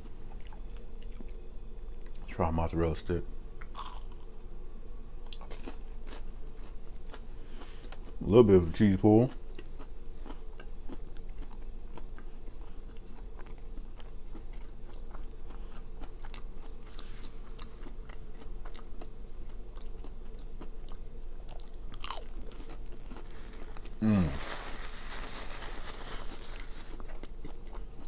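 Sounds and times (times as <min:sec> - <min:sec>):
chewing crunchy fried food: 0:00.0 - 0:02.3, 0:03.5 - 0:28.0.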